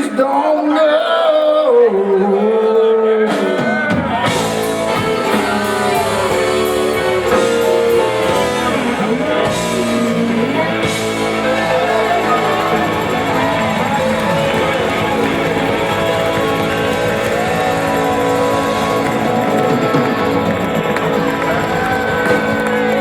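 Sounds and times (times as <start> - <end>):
rock band playing: 3.3 - 23.0
bending melody line: 4.3 - 23.0.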